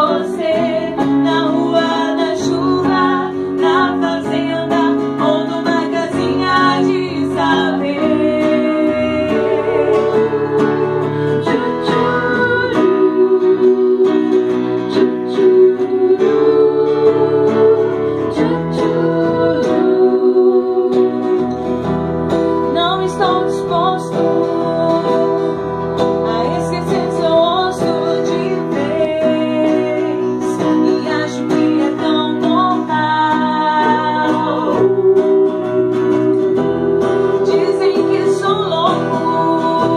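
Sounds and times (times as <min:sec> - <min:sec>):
guitar accompaniment: 0:00.0 - 0:39.9
women singing into microphones: 0:00.0 - 0:39.9.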